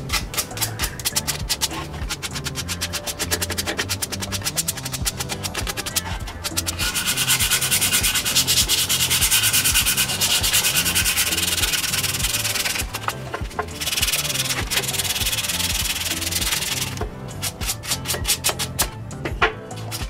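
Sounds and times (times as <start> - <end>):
sandpaper scratching wood: 0.0 - 19.0, 19.8 - 20.0.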